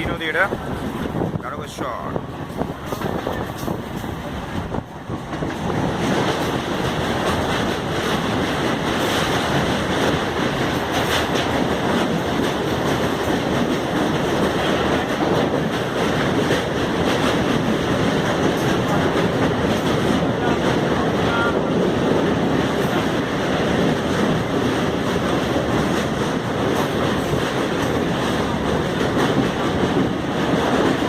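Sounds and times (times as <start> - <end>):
moving passenger train: 0.0 - 31.0.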